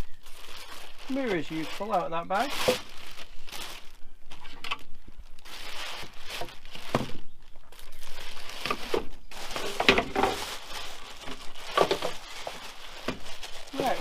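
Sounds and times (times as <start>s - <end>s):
bag crinkling and rustling: 0.0s - 14.0s.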